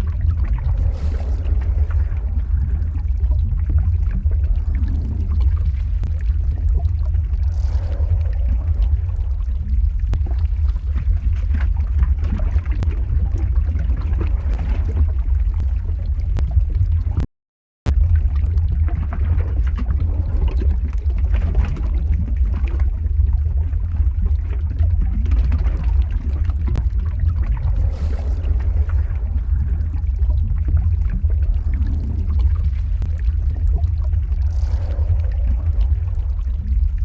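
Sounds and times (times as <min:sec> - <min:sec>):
crackling bubbling lava: 0:00.0 - 0:17.3, 0:17.9 - 0:37.0
deep rumble: 0:00.0 - 0:17.3, 0:17.9 - 0:37.0.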